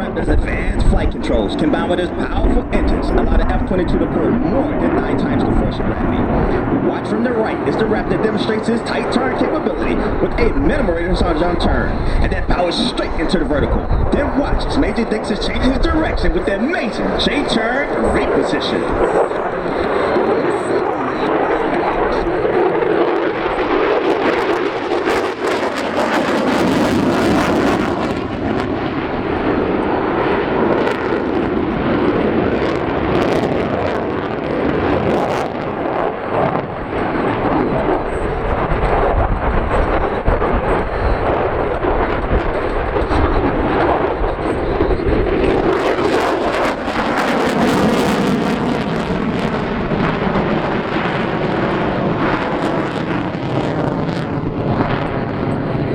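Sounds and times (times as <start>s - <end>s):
crackling fighter jet noise: 0.0s - 55.9s.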